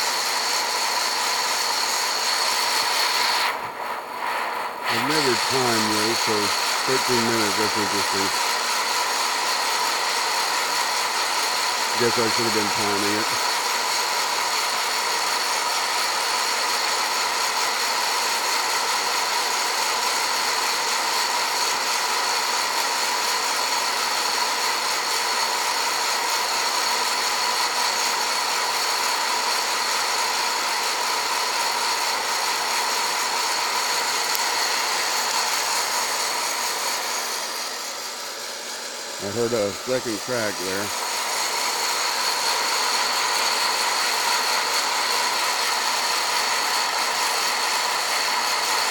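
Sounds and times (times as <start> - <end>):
popcorn popper fan whirring: 0.0 - 48.9.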